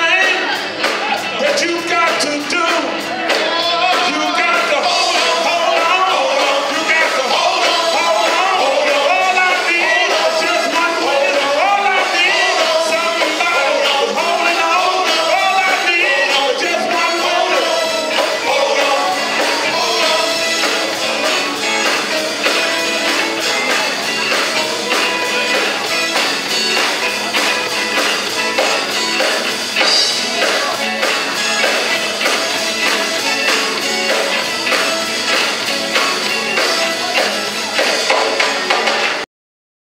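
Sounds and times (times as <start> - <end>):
man singing: 0.0 - 38.9
gospel band playing: 0.0 - 39.3.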